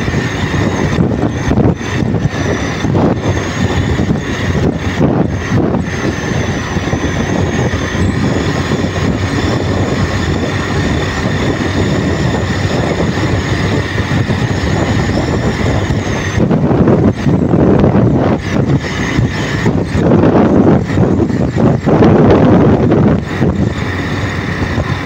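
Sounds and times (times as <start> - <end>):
motorcycle engine drone: 0.0 - 25.0
road noise: 0.0 - 25.0
thin high whine: 0.0 - 25.0
wind rushing on microphone: 0.0 - 25.0.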